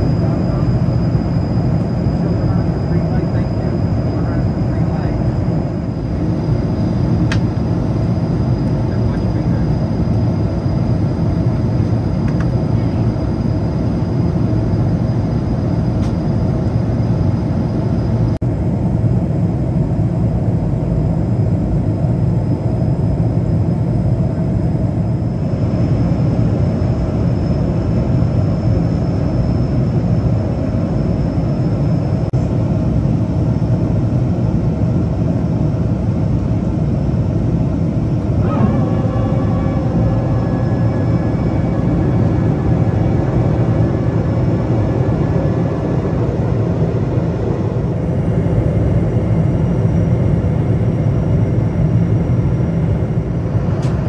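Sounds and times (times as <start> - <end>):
faint high whine: 0.0 - 54.0
jet engines rumbling in cabin: 0.0 - 54.0.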